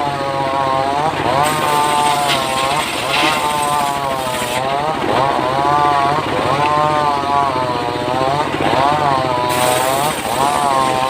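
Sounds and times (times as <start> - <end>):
engine-driven saw cutting wood: 0.0 - 11.0.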